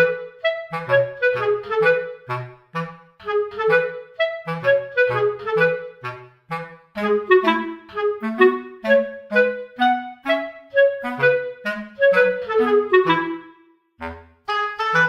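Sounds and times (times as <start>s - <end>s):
bouncy tune over bass line: 0.0s - 15.0s.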